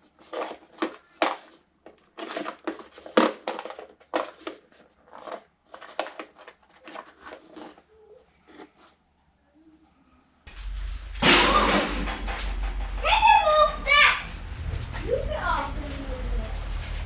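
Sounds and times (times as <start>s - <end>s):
rustling and crinkling packaging: 0.0s - 9.0s, 10.5s - 17.0s.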